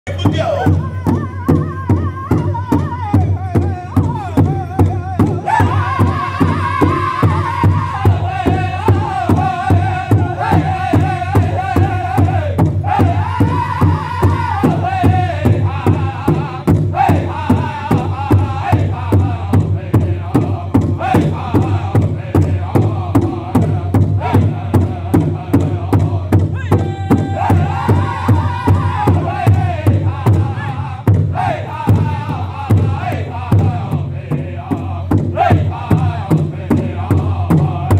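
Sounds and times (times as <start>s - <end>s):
big drum steady beat: 0.1s - 37.9s
group singing high wavering voices: 0.1s - 37.9s.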